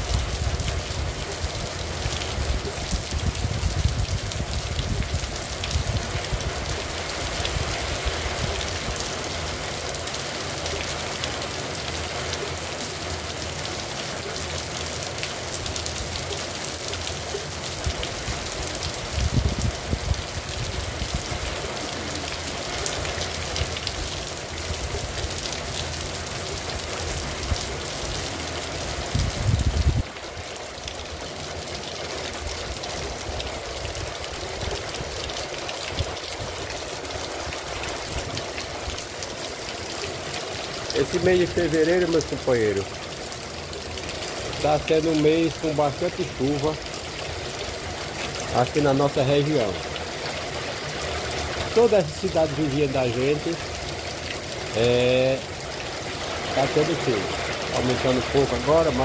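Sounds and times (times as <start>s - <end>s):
rain falling on street and car: 0.0s - 59.0s.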